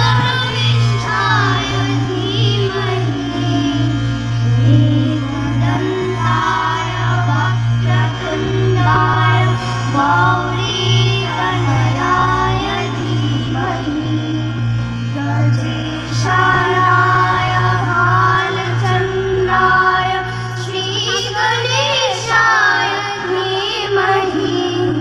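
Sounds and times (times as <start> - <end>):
children singing devotional song: 0.0 - 3.9, 4.8 - 14.4, 15.2 - 25.0
steady low hum: 0.0 - 25.0.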